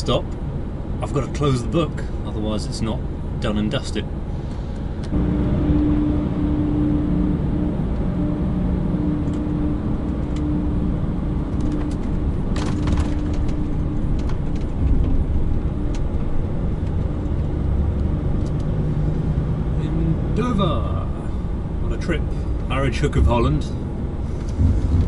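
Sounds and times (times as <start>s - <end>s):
lorry diesel engine hum: 0.0s - 25.0s.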